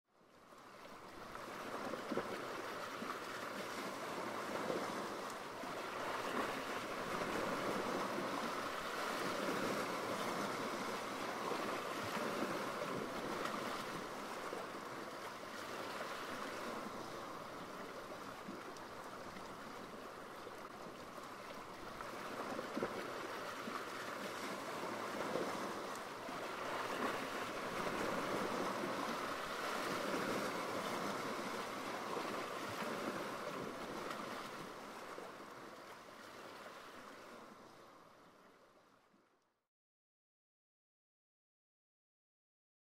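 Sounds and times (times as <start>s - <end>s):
ocean waves washing: 0.4s - 38.5s.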